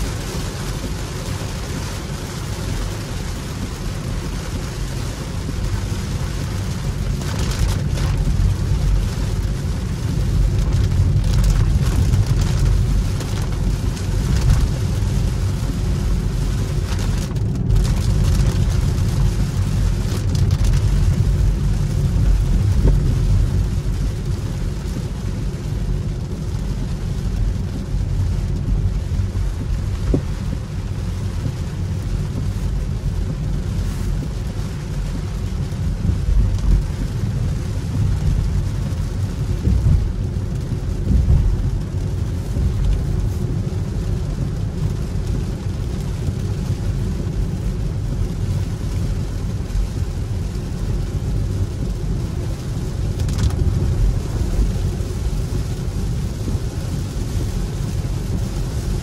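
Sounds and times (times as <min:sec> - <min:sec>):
rain and spray hissing: 0:00.0 - 0:59.0
tyres rumbling on wet road: 0:00.0 - 0:59.0.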